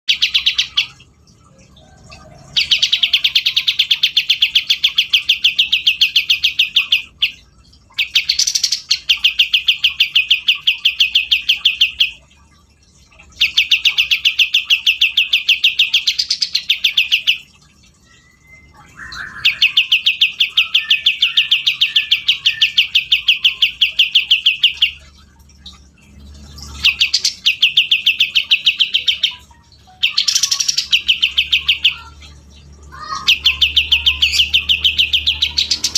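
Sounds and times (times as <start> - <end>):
bulbul singing rapid trills: 2.0 - 12.2, 13.2 - 35.9.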